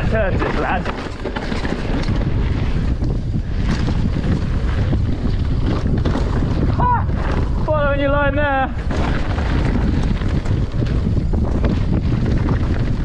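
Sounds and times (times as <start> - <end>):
bike clattering over gravel: 0.0 - 13.0
wind rushing over microphone: 0.0 - 13.0.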